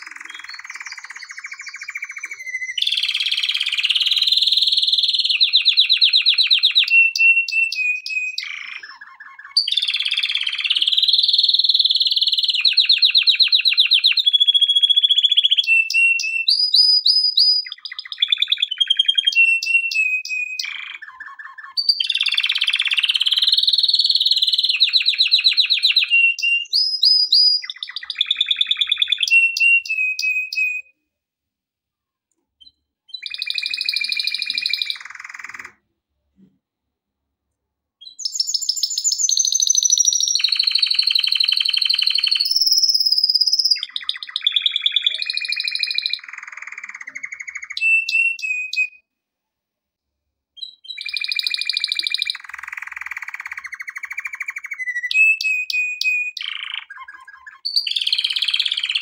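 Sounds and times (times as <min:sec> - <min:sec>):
canary singing trills: 0:00.0 - 0:31.0, 0:32.6 - 0:35.8, 0:38.0 - 0:49.1, 0:50.6 - 0:59.0.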